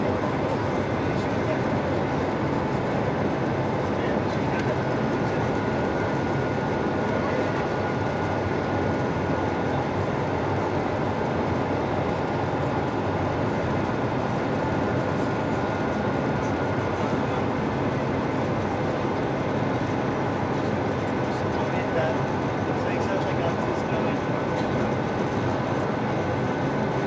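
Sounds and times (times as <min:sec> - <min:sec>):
airliner cabin engine and airflow noise: 0:00.0 - 0:27.0.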